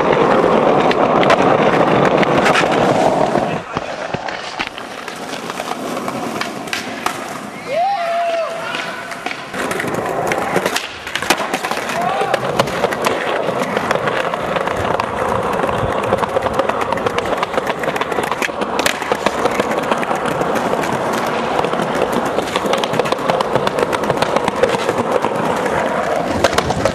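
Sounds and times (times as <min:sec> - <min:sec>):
skateboards rolling and clacking: 0:00.0 - 0:26.9.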